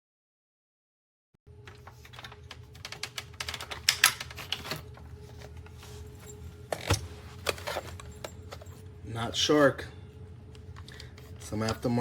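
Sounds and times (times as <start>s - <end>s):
faint steady hum: 1.5s - 12.0s.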